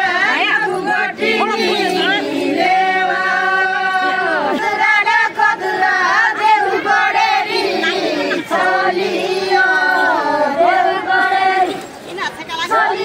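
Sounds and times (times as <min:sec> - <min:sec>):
women singing folk song: 0:00.0 - 0:13.0.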